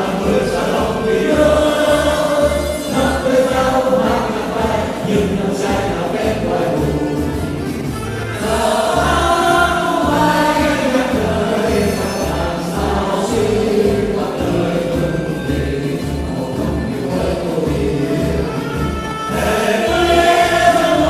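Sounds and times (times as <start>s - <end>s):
choir singing: 0.0s - 21.0s
instrumental accompaniment with beat: 0.0s - 21.0s.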